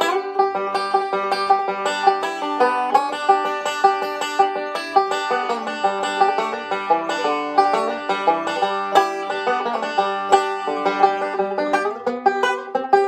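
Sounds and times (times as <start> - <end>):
banjo picking a tune: 0.0 - 13.0.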